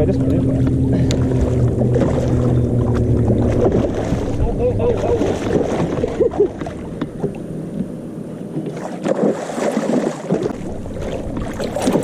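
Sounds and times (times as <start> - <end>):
water noise around boat: 0.0 - 12.0
wind: 0.0 - 12.0.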